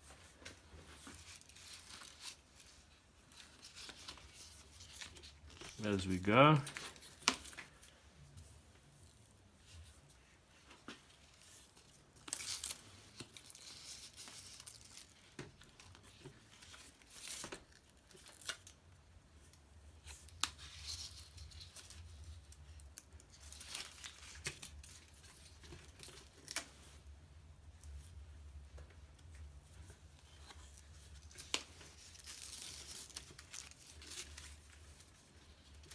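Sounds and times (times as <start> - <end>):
tape rasping and crinkling: 0.0 - 8.0, 8.8 - 27.1, 27.8 - 35.9.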